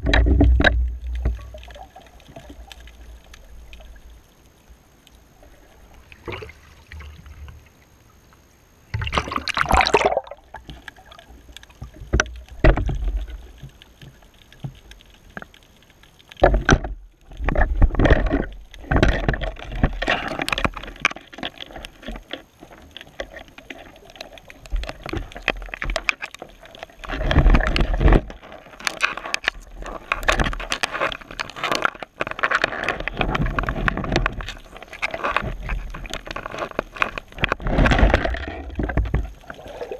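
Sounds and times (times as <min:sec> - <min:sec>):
churning gurgling water underwater: 0:00.0 - 0:39.9.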